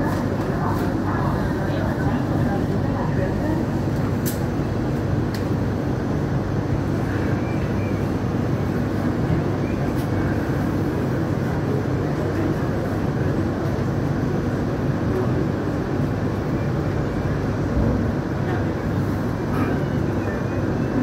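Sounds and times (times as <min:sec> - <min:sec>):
light-rail train rumbling: 0:00.0 - 0:21.0.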